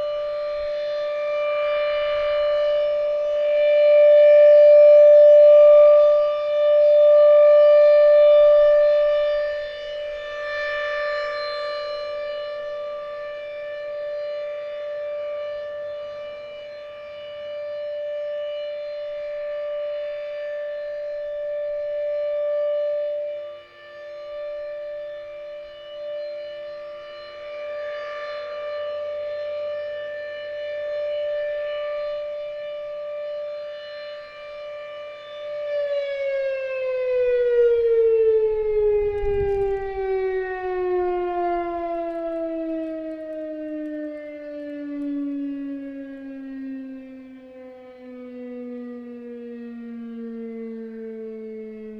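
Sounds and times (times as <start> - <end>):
rotating warning siren: 0.0 - 51.9.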